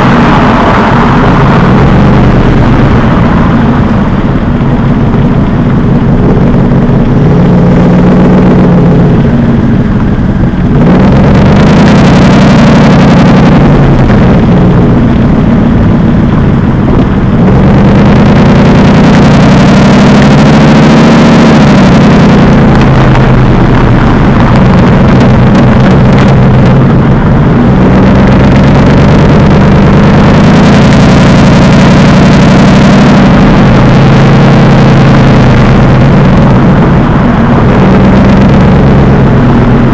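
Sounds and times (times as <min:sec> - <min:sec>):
car engine revving loudly: 0:00.0 - 0:39.9.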